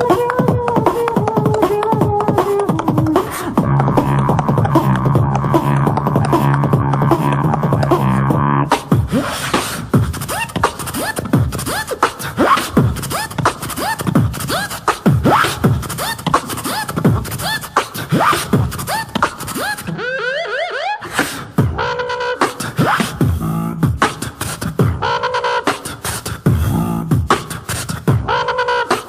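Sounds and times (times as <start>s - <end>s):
person beatboxing: 0.0s - 20.2s, 21.0s - 29.0s.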